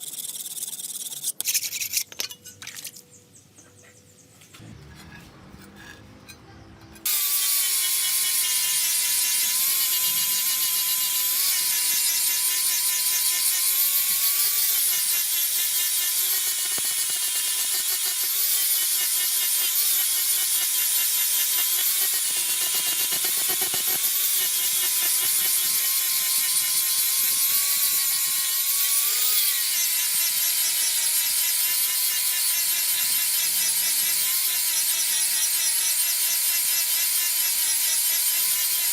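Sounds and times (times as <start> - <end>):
power tool motor whining: 6.9 - 38.9.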